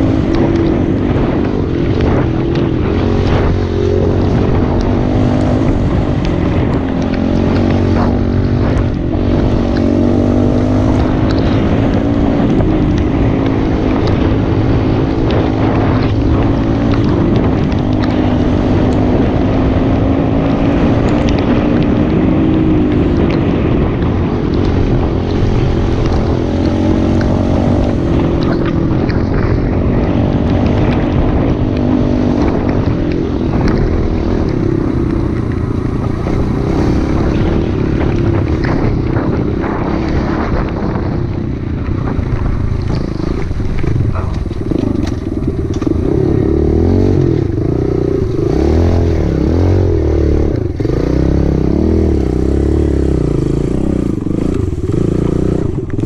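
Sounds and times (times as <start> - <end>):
bike rattling over rough ground: 0.0 - 56.0
dirt bike engine: 0.0 - 56.0
wind rumble on microphone: 0.0 - 56.0.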